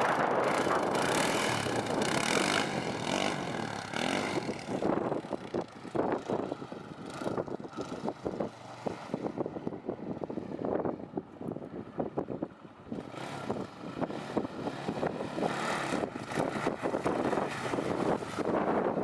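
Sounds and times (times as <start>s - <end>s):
quad engine revving: 0.0s - 9.3s, 12.9s - 19.0s.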